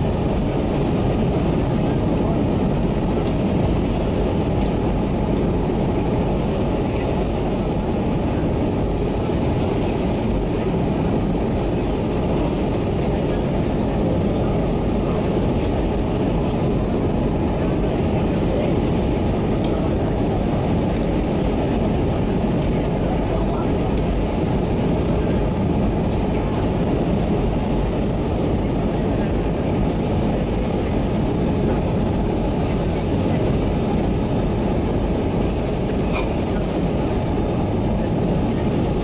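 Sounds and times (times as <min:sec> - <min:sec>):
airplane cabin engine roar: 0:00.0 - 0:39.0.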